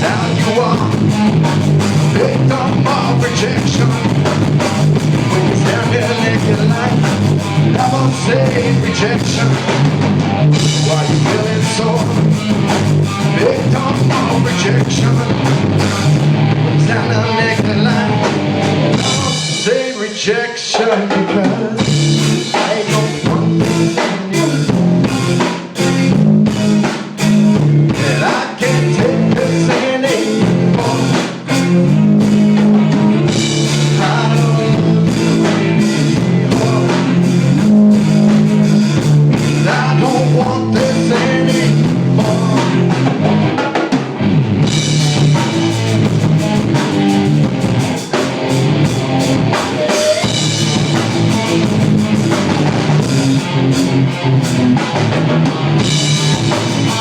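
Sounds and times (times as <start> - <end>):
bass guitar: 0.0 - 57.0
distorted electric guitars: 0.0 - 57.0
drum kit playing: 0.0 - 57.0.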